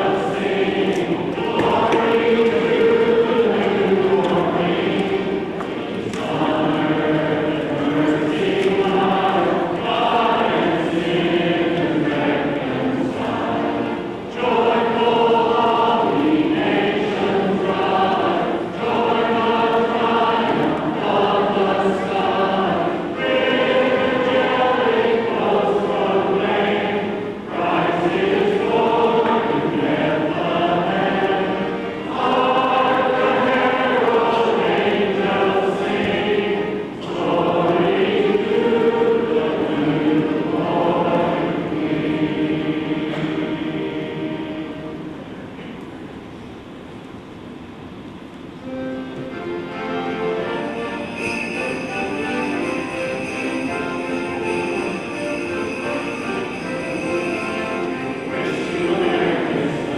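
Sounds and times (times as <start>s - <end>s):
choir singing: 0.0s - 45.6s, 48.6s - 59.9s.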